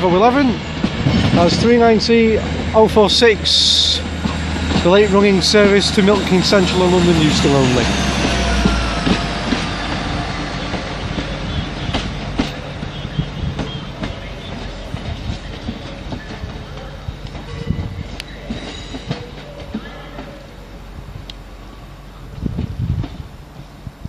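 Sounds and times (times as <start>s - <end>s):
train wheels clattering over rail joints: 0.0s - 21.7s.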